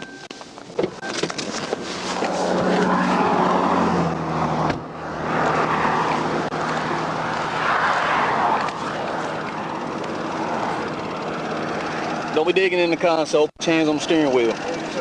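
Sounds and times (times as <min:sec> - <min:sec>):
steady engine hum: 0:00.0 - 0:15.0
passing vehicles road noise: 0:01.3 - 0:15.0.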